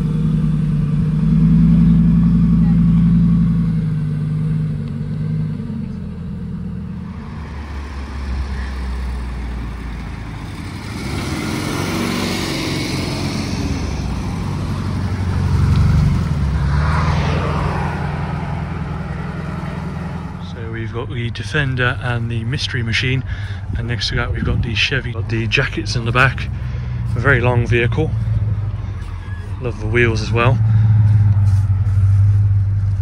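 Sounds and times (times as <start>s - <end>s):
car engine humming: 0.0s - 33.0s
car moving nearby: 0.0s - 33.0s.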